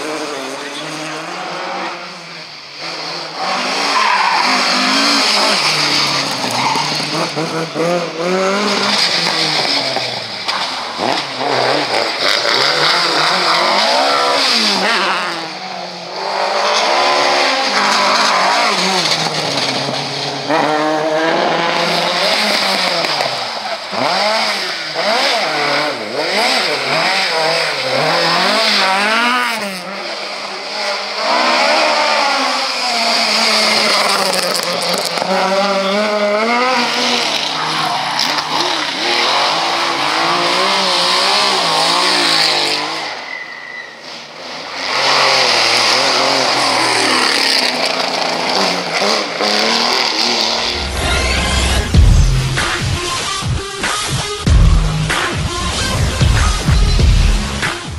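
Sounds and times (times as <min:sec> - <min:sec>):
rally cars revving past: 0:00.0 - 0:53.3.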